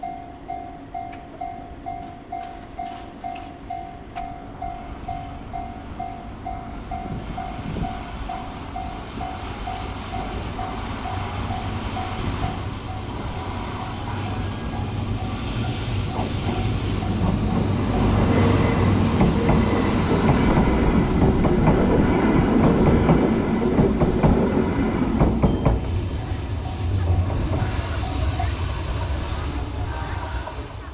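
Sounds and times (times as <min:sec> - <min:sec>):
freight train rumble: 0:00.0 - 0:30.9
train wheels clattering on rails: 0:01.0 - 0:30.9.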